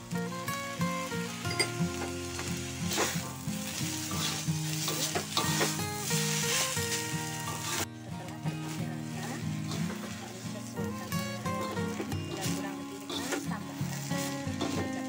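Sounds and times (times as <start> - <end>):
background music melody: 0.0 - 15.0
rice sizzling in a hot wok: 0.0 - 15.0
spatula scraping a wok: 0.3 - 15.0.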